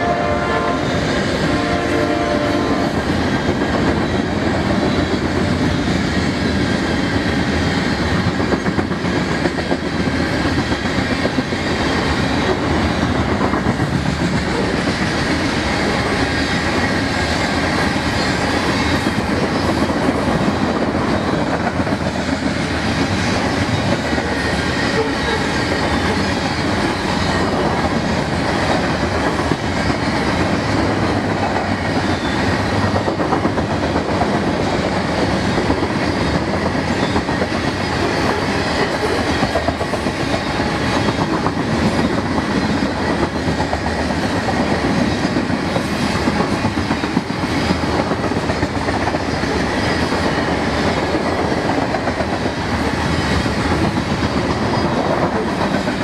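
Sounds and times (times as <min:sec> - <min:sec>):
freight train wheels clattering on rail: 0:00.0 - 0:56.0.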